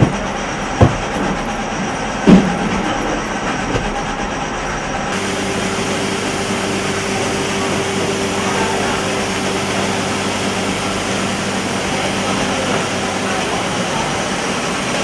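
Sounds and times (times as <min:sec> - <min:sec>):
low even drone: 0:00.0 - 0:15.0
machinery hum: 0:00.0 - 0:15.0.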